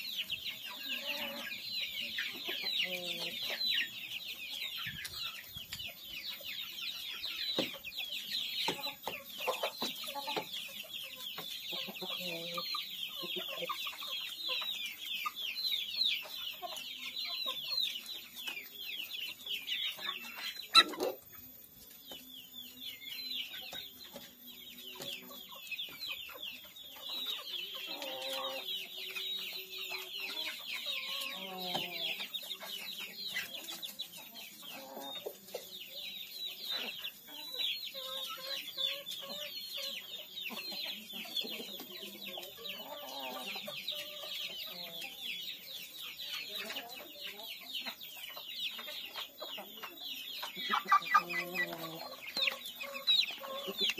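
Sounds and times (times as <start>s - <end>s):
chicks peeping: 0.0s - 53.9s
low chicken clucks: 0.0s - 53.9s.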